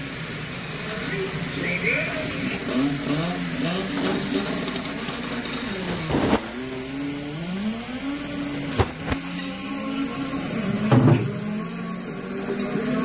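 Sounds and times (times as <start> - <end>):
motor running: 0.0 - 13.0.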